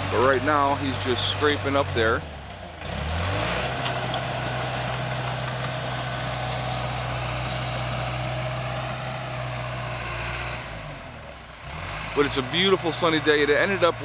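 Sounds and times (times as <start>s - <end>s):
bulldozer diesel engine running: 0.0s - 14.0s
bulldozer scraping soil: 0.0s - 14.0s.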